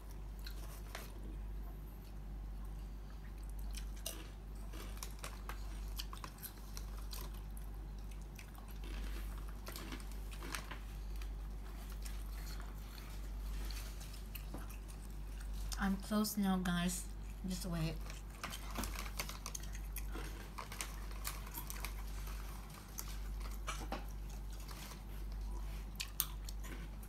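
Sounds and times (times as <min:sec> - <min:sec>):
person chewing crunchy crust: 0:00.0 - 0:15.8, 0:17.1 - 0:27.0
steady low hum: 0:00.0 - 0:27.0.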